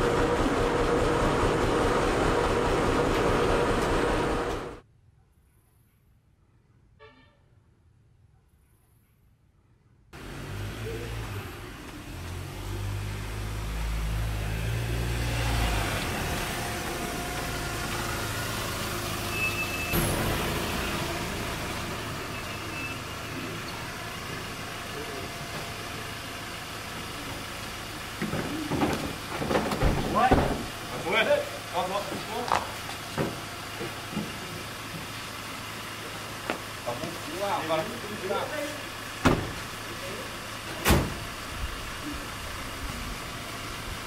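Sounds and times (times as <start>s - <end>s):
vehicle engine rumbling: 0.0s - 4.8s, 10.2s - 44.0s.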